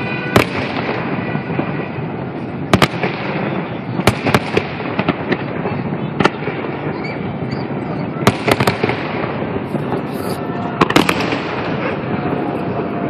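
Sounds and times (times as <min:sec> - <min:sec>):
dense firework crackling: 0:00.0 - 0:13.0
smaller firework pops: 0:00.3 - 0:12.2.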